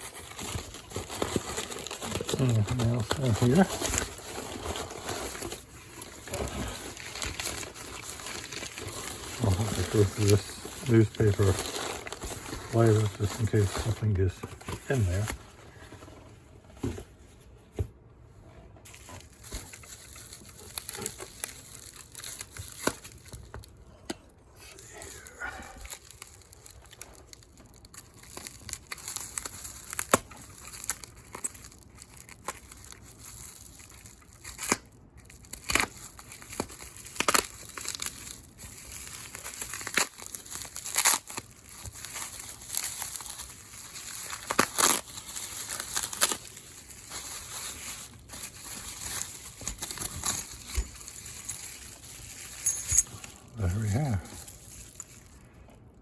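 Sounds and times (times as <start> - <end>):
paper crumpling and tearing: 0.0 - 16.2, 18.9 - 23.8, 24.6 - 55.6.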